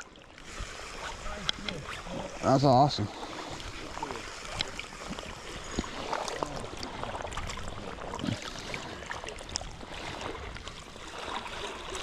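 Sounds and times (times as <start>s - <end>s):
small splashes and clicks: 0.0s - 2.2s, 3.5s - 12.0s
river water running: 0.0s - 12.0s.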